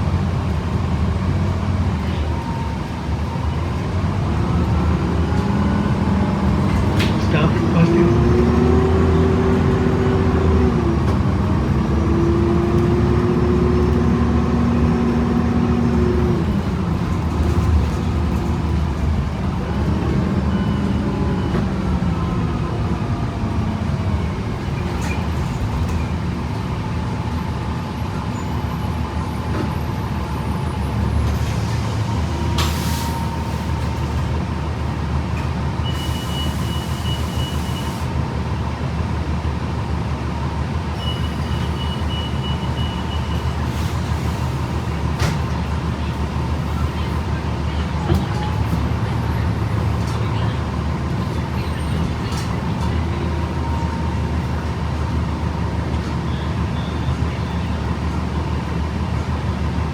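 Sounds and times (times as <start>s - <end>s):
drivetrain rumbling low: 0.0s - 36.6s, 38.2s - 59.9s
bus transmission whine: 0.0s - 59.9s.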